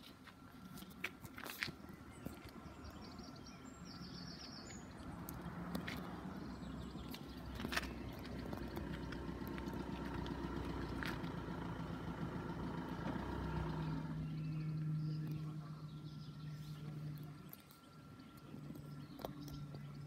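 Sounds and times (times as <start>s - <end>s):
vehicle engine running at low revs: 0.2s - 20.0s.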